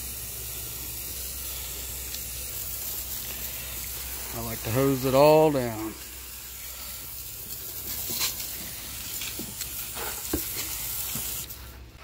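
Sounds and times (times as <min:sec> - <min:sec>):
hose nozzle spraying water: 0:00.0 - 0:11.8.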